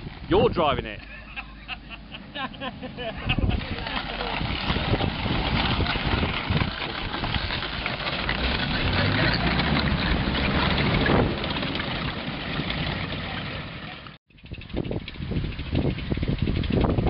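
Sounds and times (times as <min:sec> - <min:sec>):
tank engines running: 0:00.0 - 0:17.0.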